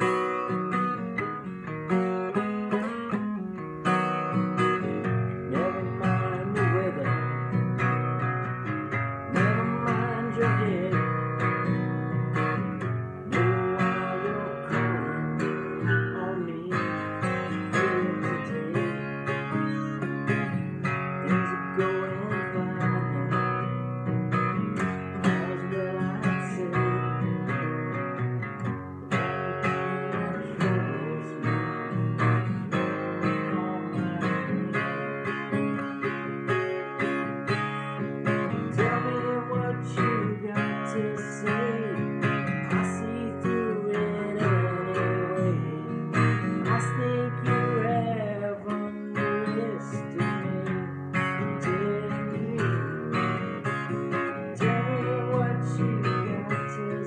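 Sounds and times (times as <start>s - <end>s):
acoustic guitar strumming chords: 0.0s - 57.0s
man singing: 4.4s - 7.9s, 9.2s - 28.2s, 29.1s - 36.7s, 37.9s - 57.0s.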